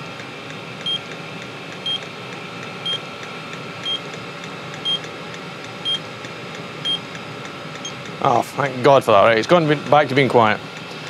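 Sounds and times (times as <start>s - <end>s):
heater running: 0.0s - 11.0s.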